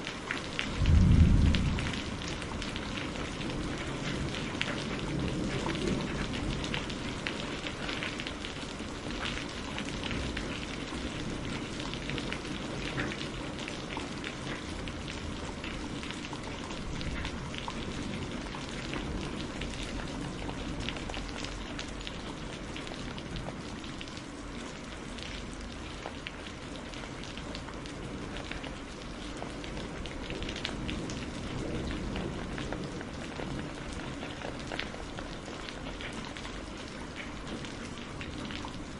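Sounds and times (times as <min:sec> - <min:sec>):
raindrop hits on a surface: 0:00.0 - 0:38.9
steady rain falling: 0:00.0 - 0:38.9.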